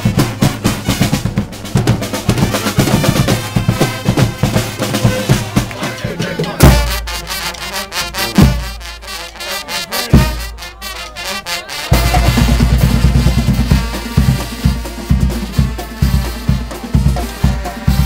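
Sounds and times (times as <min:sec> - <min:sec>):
drums: 0:00.0 - 0:09.3, 0:09.9 - 0:10.9, 0:11.7 - 0:18.0
trumpets and trombones: 0:00.0 - 0:18.0.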